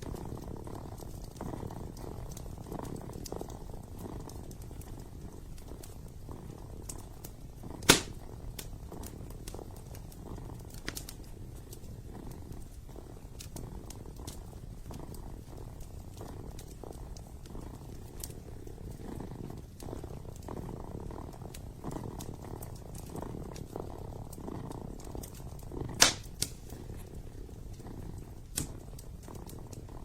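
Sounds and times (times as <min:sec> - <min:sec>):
kitten purring: 0:00.0 - 0:30.0
wood fire crackling and popping: 0:00.0 - 0:30.0.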